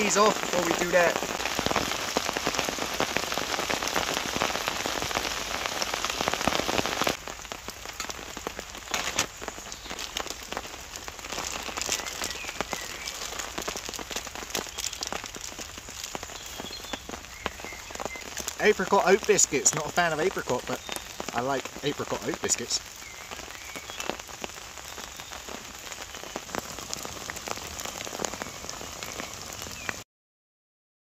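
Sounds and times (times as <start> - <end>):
heavy rain on a tarp: 0.0 - 30.0
rain drops on leaves: 0.0 - 30.0.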